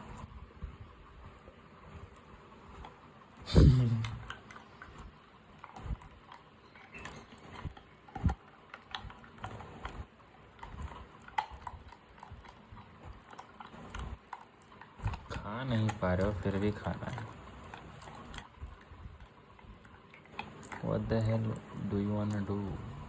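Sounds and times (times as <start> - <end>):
dog chewing meat: 0.0 - 23.0.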